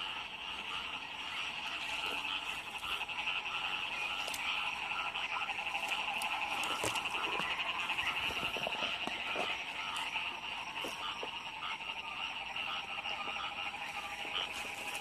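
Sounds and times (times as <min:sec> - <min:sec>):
frogs chorus trilling: 0:00.0 - 0:15.0
grass rustling and clicks: 0:00.5 - 0:11.9, 0:12.6 - 0:15.0.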